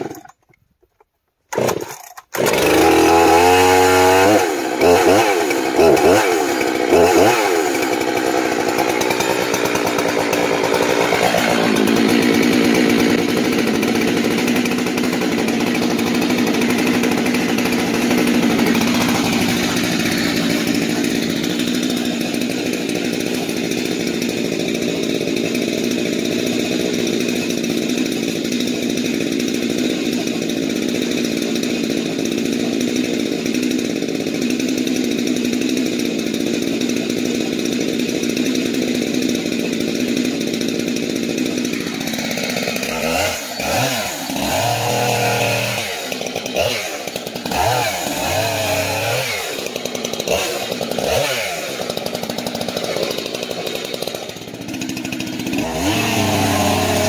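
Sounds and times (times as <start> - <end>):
chainsaw running: 0.0 - 57.0.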